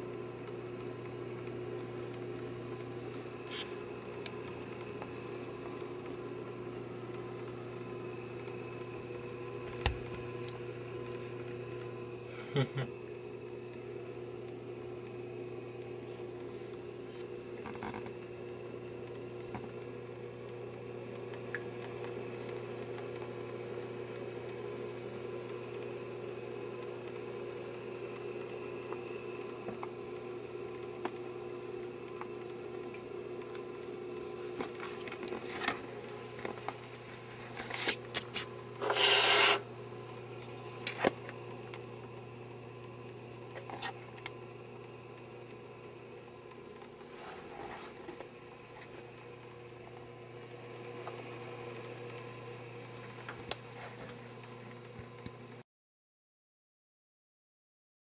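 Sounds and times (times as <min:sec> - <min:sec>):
aquarium filter humming: 0:00.0 - 0:55.6.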